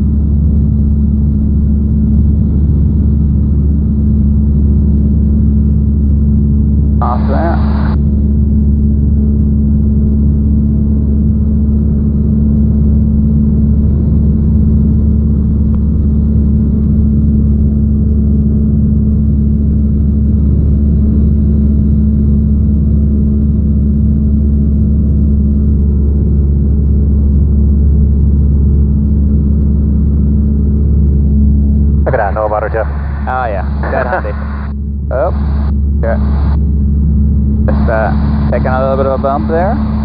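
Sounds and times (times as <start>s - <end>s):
propeller plane engine droning: 0.0s - 40.0s.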